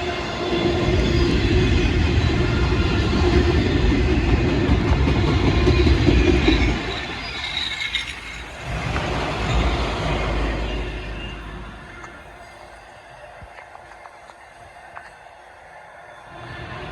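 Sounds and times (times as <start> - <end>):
freight train rumbling past: 0.0 - 16.9.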